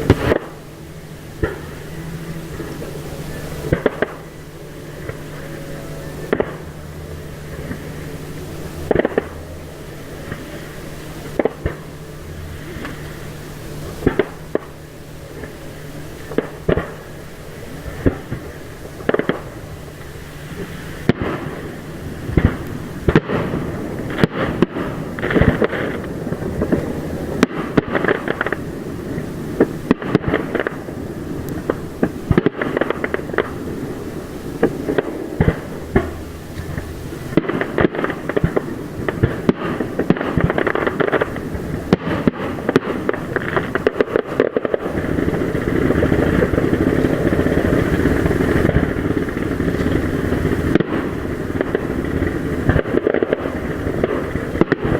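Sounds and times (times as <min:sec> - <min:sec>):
fireworks bursting: 0:00.0 - 0:54.9
fireworks crackling: 0:00.0 - 0:54.9.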